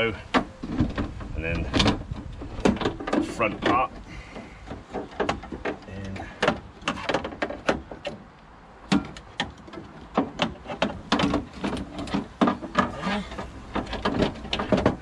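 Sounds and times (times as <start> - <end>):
window regulator rattling in door: 0.3 - 8.2, 8.9 - 15.0.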